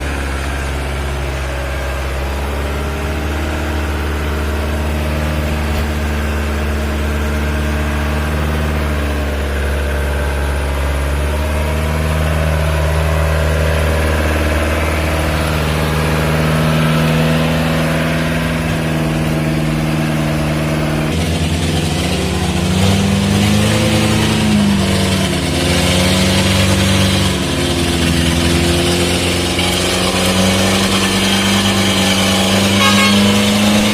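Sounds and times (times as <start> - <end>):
truck engine running under load: 0.0 - 33.9.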